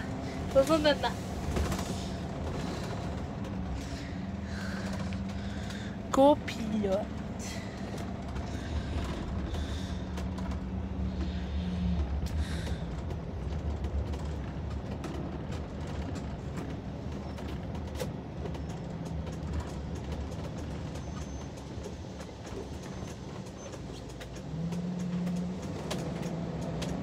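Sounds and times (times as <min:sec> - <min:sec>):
engine and road noise in cabin: 0:00.0 - 0:27.0.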